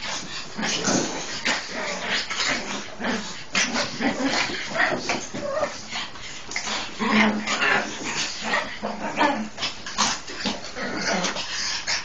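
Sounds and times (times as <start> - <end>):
dogs yipping and whining: 0.0 - 11.9.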